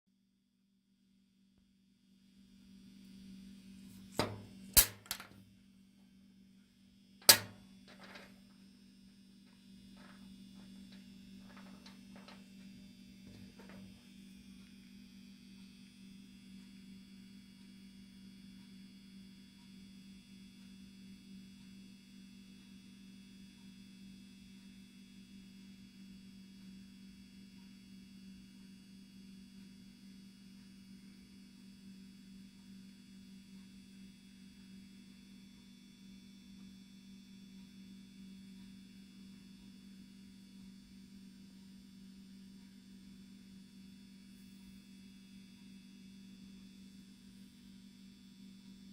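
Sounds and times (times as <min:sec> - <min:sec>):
low electrical hum: 0:01.3 - 0:48.9.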